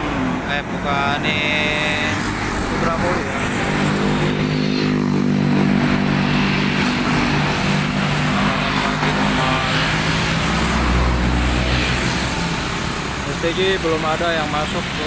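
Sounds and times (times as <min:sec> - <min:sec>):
road traffic engine drone: 0:00.0 - 0:15.0.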